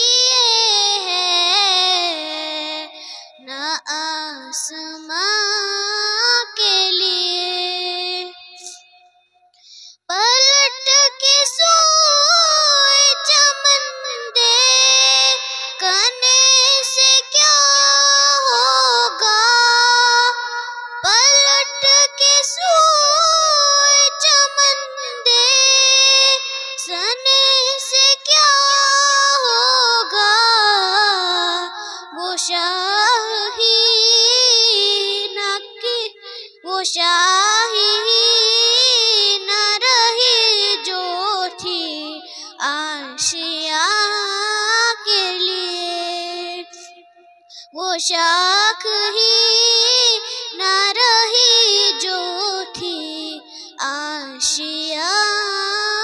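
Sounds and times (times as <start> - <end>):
girl singing unaccompanied: 0.0 - 8.8, 10.1 - 56.0.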